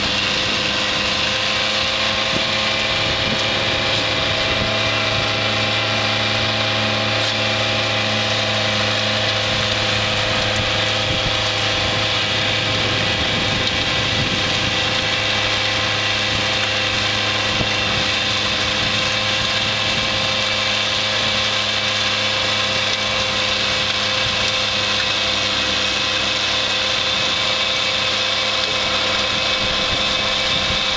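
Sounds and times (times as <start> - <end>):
mower engine running: 0.0 - 30.9
snow blower churning snow: 0.0 - 30.9.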